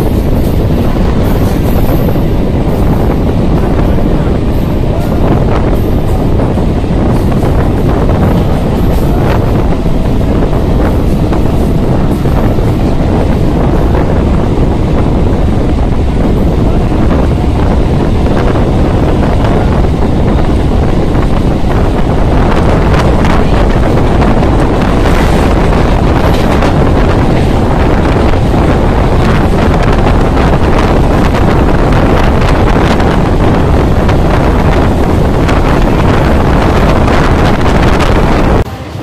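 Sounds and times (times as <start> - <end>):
train running on track: 0.0 - 39.0
wind blasting across microphone: 0.0 - 39.0.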